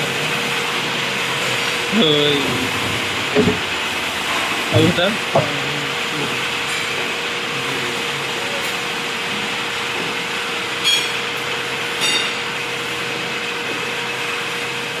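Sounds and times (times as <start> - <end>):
cnc machine humming and rushing: 0.0 - 15.0.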